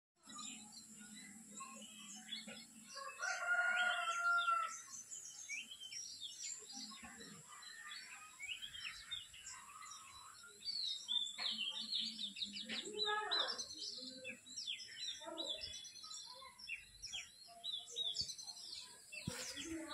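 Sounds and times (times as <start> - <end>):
small birds chirping: 0.2 - 19.9.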